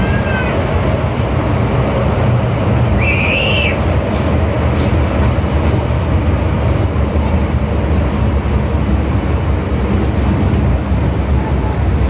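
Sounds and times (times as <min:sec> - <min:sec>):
train rumbling in tunnel: 0:00.0 - 0:12.0.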